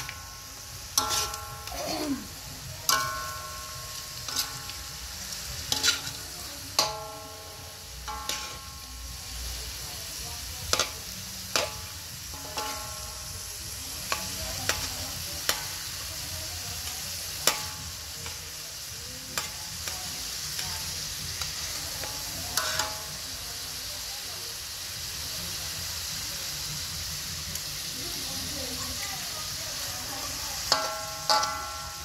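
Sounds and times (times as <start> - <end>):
metal spatula scraping a wok: 0.0 - 23.4, 29.5 - 32.0
meat sizzling in a wok: 0.0 - 32.0.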